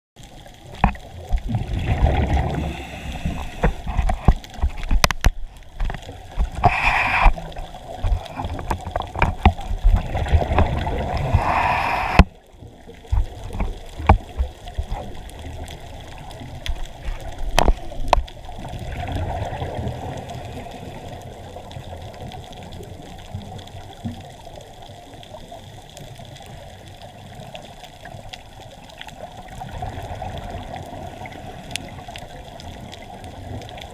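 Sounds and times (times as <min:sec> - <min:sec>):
muffled underwater water movement: 0:00.2 - 0:33.9
water rushes: 0:00.2 - 0:33.9.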